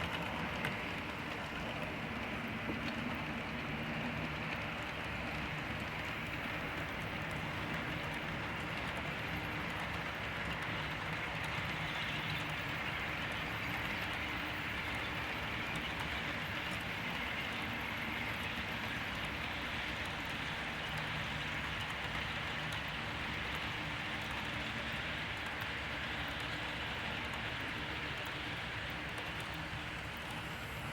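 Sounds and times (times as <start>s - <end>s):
model train wheels rolling on rail: 0.0s - 30.9s.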